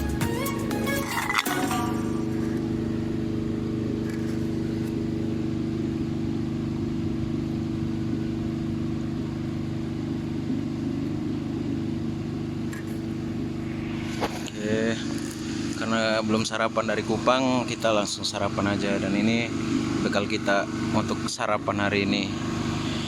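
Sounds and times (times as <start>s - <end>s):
engine humming steadily: 0.0s - 23.0s.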